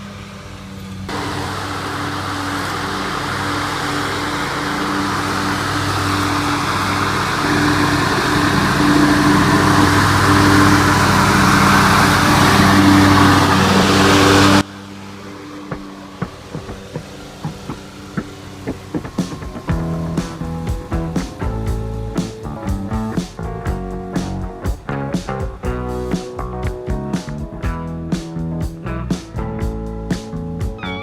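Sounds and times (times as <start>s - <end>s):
mower blade whir: 0.0s - 27.5s
riding lawn mower engine: 0.0s - 31.0s.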